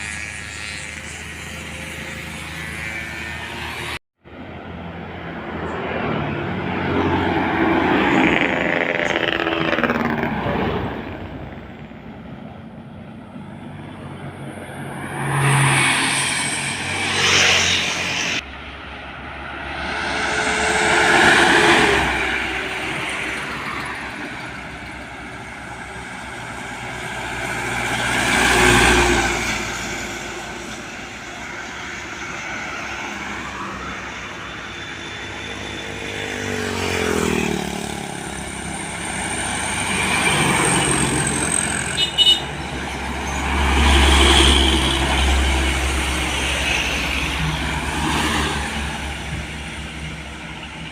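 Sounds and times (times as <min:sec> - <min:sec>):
trucks driving past: 0:00.0 - 0:50.9.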